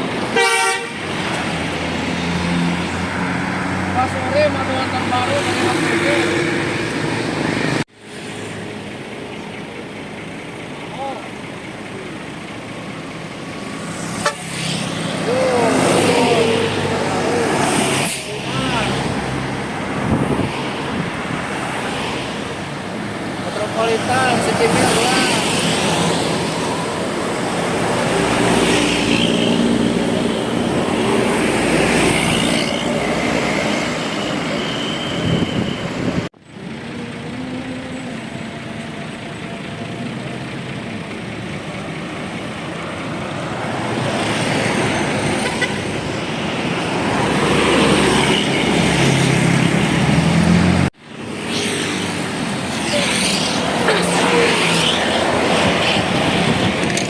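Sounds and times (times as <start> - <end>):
buses and heavy vehicles passing: 0.0 - 57.0.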